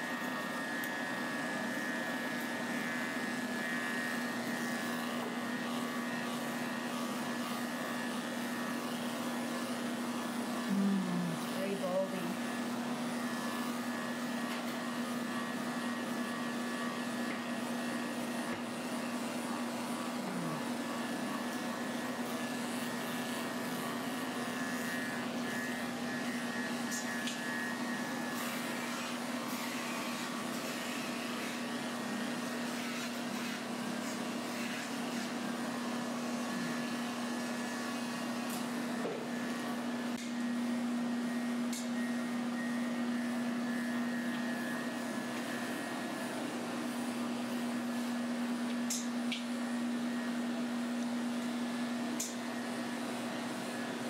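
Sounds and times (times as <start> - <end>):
electric clippers humming: 0.0 - 54.0.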